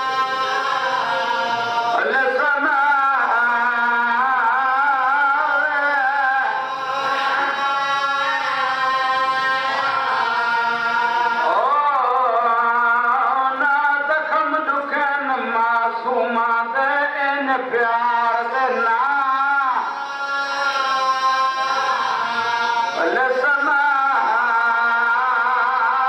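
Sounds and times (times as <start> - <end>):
man chanting into microphone: 0.0 - 26.0.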